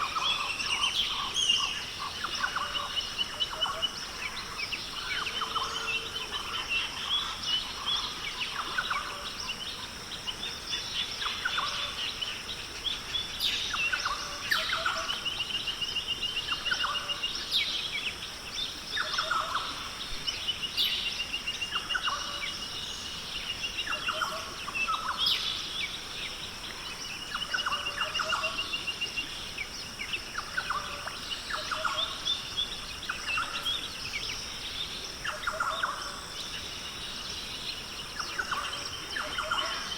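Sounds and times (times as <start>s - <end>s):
birds calling with trills: 0.0s - 39.9s.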